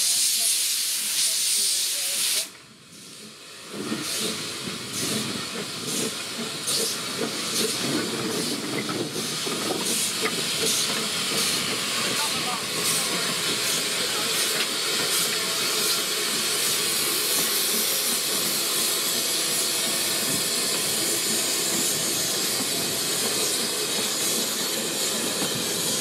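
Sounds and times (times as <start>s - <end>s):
loud steam hissing: 0.0s - 26.0s
steam locomotive exhaust chuffs: 0.0s - 26.0s.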